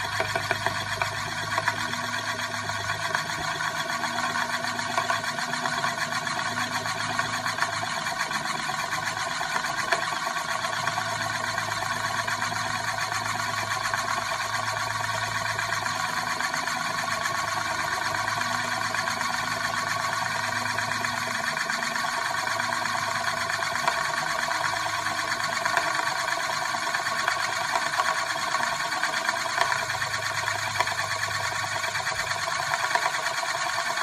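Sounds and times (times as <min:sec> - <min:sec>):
metal disc spinning whirring rattle: 0:00.0 - 0:34.0.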